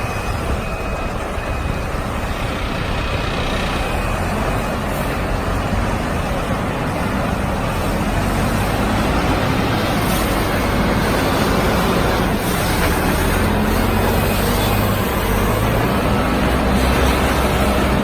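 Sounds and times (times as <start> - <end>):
concrete mixer engine running: 0.3 - 18.0.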